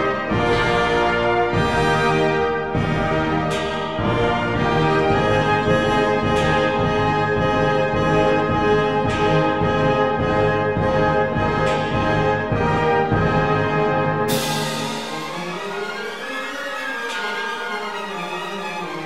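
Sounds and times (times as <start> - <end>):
orchestral music led by brass: 0.0 - 19.0.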